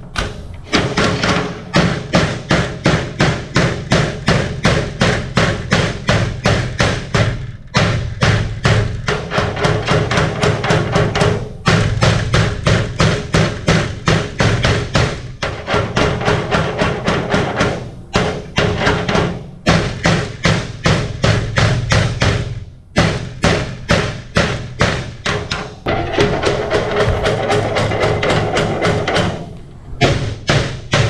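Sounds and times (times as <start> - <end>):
music with percussive beat: 0.2 - 29.4.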